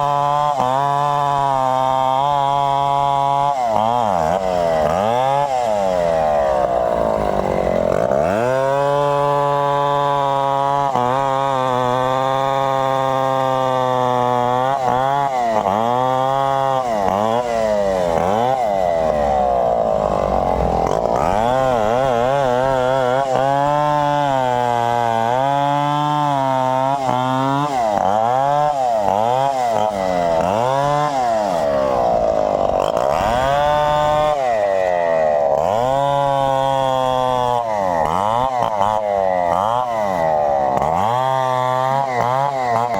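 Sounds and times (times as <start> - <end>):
chainsaw running and cutting: 0.0 - 42.9.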